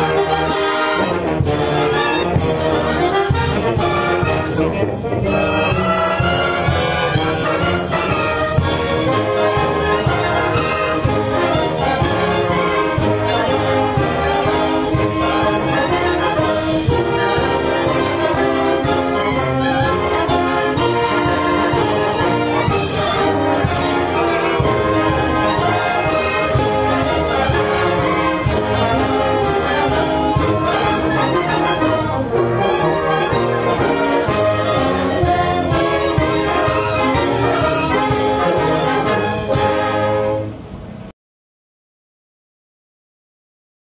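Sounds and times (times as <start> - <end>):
brass band playing a march: 0.0 - 41.1.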